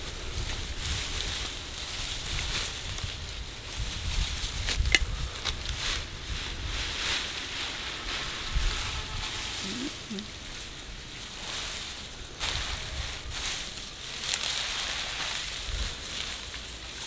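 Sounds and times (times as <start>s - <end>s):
grass and leaves rustling: 0.0s - 17.0s
wind rumbling on microphone: 0.0s - 17.0s.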